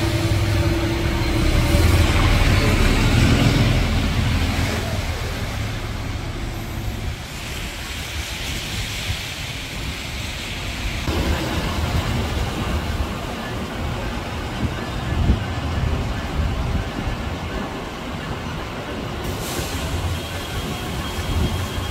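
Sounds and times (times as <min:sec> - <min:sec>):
heavy low train rumble: 0:00.0 - 0:21.9
train wheels rushing on rail: 0:00.0 - 0:21.9.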